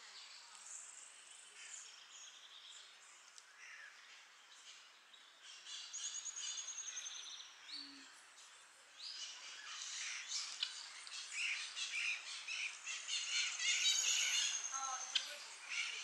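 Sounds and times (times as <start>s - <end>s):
birds chirping and singing: 0.1s - 16.0s.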